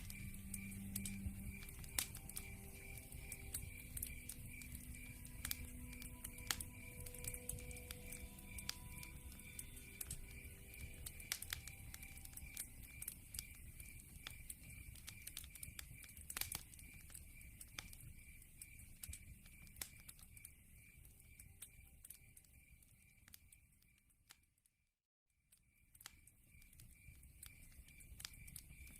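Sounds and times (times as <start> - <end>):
wood fire crackling: 0.0 - 24.6, 25.5 - 28.9.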